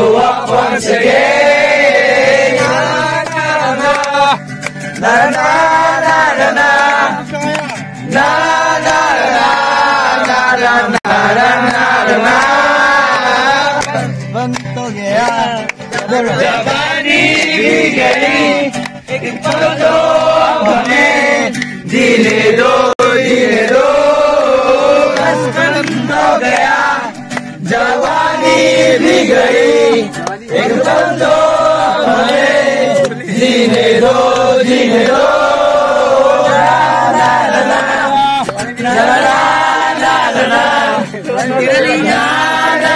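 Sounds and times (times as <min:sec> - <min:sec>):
young men singing held notes: 0:00.0 - 0:07.3, 0:08.0 - 0:14.2, 0:15.1 - 0:42.9.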